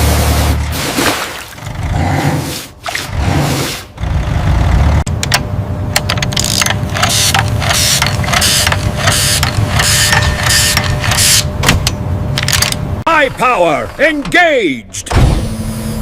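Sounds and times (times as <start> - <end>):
excavator engine running: 0.0 - 1.0, 1.6 - 16.0.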